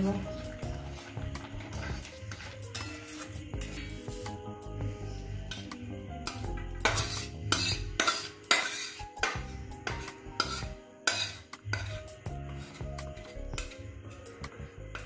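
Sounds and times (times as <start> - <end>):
metal spatula scraping a pan: 0.0 - 4.4, 5.4 - 14.3
background music: 0.0 - 15.0.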